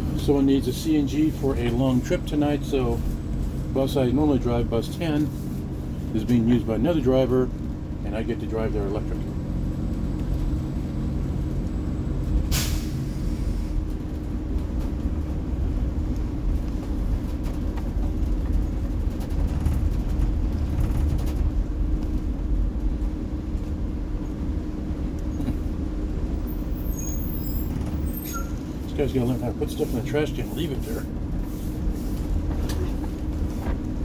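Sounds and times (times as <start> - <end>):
bus tyres and chassis rumble: 0.0 - 34.0.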